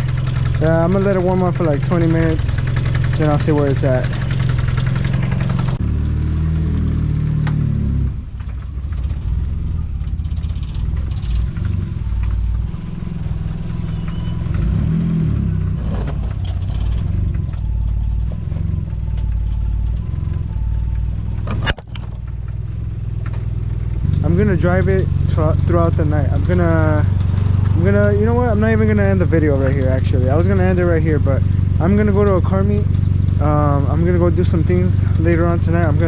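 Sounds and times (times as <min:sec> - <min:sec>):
car engine idling: 0:00.0 - 0:05.9, 0:08.2 - 0:36.0.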